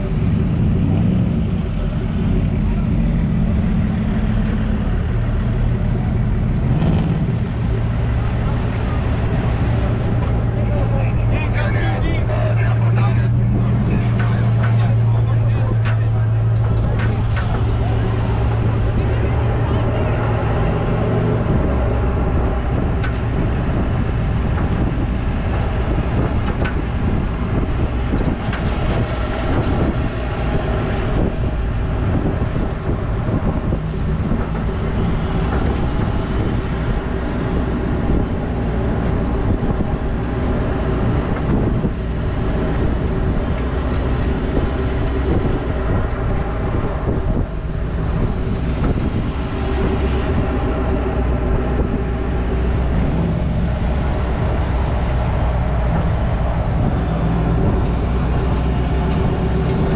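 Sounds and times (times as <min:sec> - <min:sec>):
pickup truck engine droning: 0:00.0 - 0:59.9.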